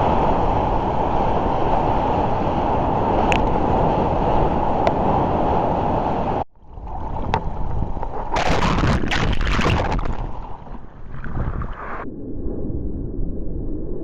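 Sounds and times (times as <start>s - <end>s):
surf rushing and splashing: 0.0s - 12.0s
wind buffeting microphone: 0.0s - 14.0s.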